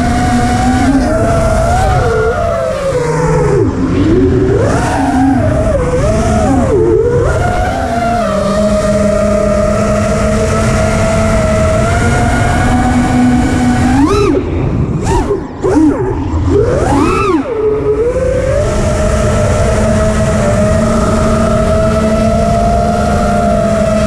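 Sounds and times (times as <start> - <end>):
drone motors whining: 0.0 - 24.0
low rush of noise: 0.0 - 24.0.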